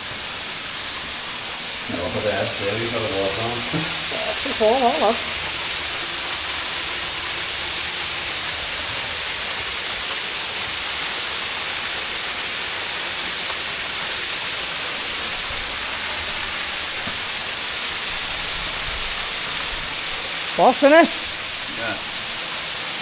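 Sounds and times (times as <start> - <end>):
waterfall rushing hiss: 0.0 - 23.0.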